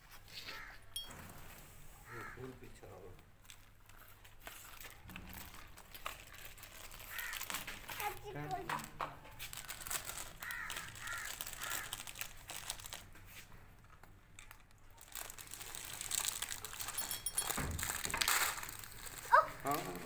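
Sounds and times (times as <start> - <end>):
faint rustling and crackling: 0.0 - 20.0.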